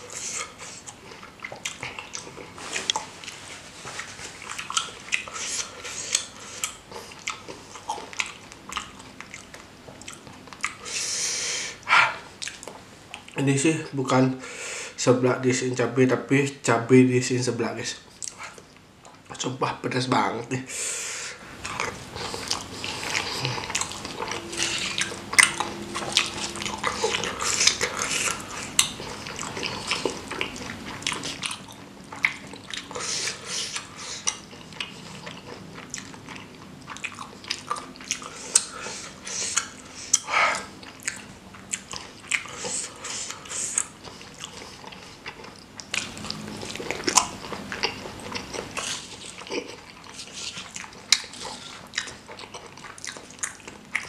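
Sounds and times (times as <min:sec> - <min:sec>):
wet chewing and mouth sounds: 0:00.0 - 0:11.1, 0:11.7 - 0:13.4, 0:18.2 - 0:19.4, 0:21.4 - 0:54.0.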